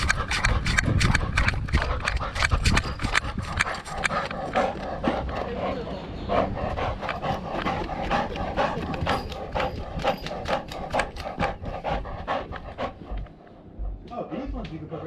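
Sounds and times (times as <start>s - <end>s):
dog making sharp clicks: 0.0s - 5.6s, 6.4s - 13.4s.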